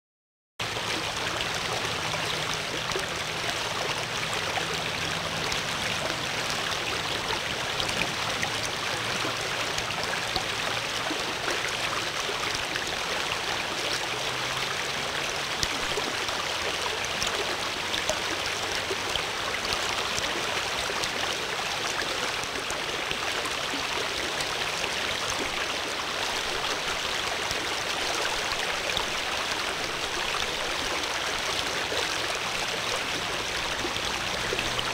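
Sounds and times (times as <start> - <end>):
stream water rushing: 0.6 - 34.9.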